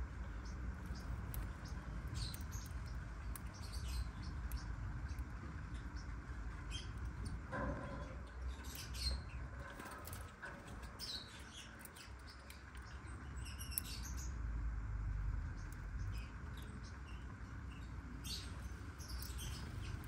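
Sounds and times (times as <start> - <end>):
birds chirping and squeaking: 0.0 - 14.4, 15.2 - 20.0
steady low hum: 0.0 - 20.0.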